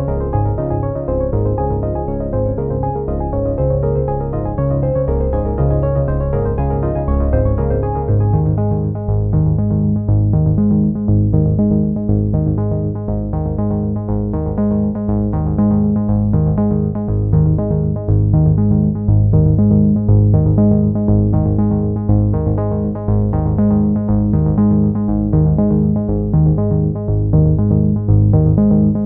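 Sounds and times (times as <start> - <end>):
steady bass line: 0.0 - 29.0.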